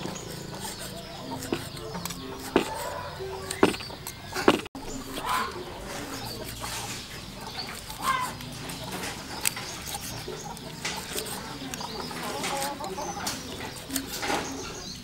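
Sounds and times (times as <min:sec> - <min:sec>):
knife slicing meat: 0:00.0 - 0:14.9
birds calling: 0:00.0 - 0:15.0.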